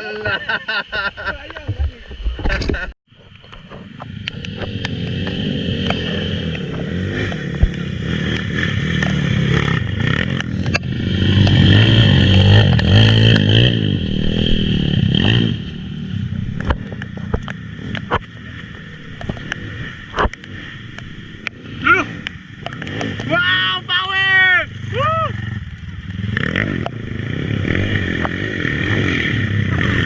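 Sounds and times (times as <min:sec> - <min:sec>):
motorcycle engine revving: 0:03.2 - 0:30.0.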